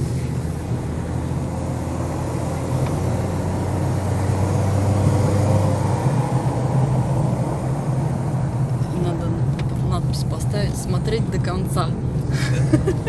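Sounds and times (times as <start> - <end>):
car engine hum: 0.0 - 13.0
tyre and road rush: 0.0 - 13.0.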